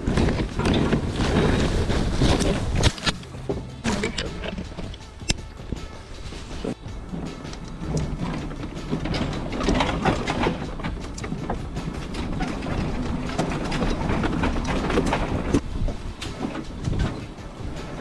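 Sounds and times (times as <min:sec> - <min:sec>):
low rumble of rolling: 0:00.0 - 0:18.0
metal chain rattling and clanking: 0:00.0 - 0:18.0.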